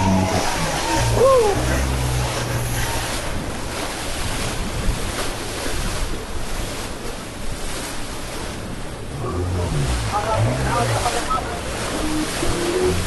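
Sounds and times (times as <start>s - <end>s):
floodwater rushing: 0.0s - 13.0s
wind on microphone: 0.0s - 13.0s.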